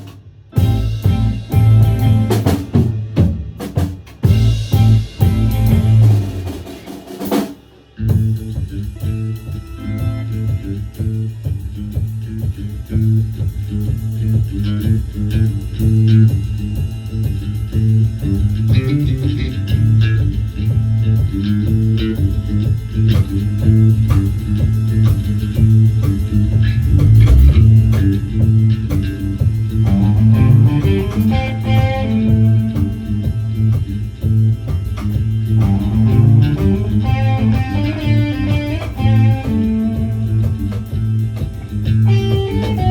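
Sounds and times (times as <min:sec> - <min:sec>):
bass guitar: 0:00.0 - 0:42.9
drums: 0:00.0 - 0:42.9
electric guitar: 0:00.0 - 0:42.9.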